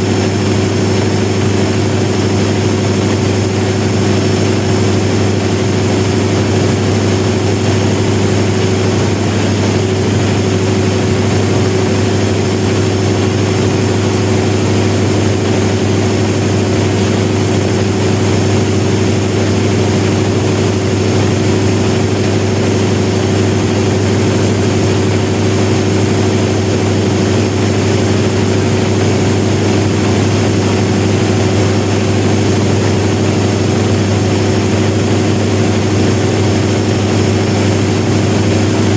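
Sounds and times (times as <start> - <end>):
diesel generator deep drone: 0.0 - 38.9.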